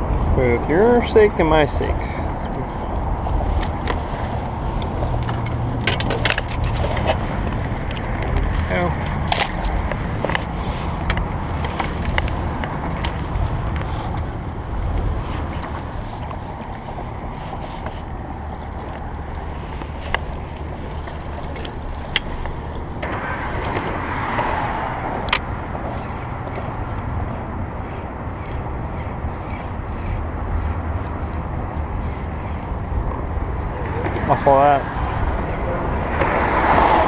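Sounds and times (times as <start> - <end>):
wind rumbling on microphone: 0.0 - 37.0
boat motor running: 2.5 - 36.3.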